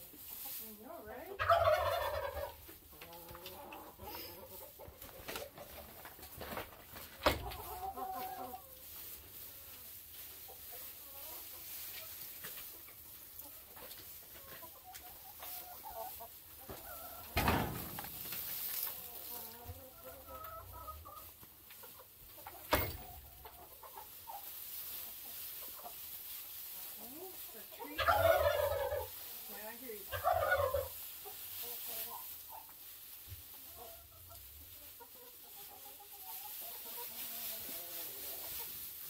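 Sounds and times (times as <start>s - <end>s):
hens clucking softly: 0.0s - 39.0s
rustle of straw: 0.0s - 39.0s.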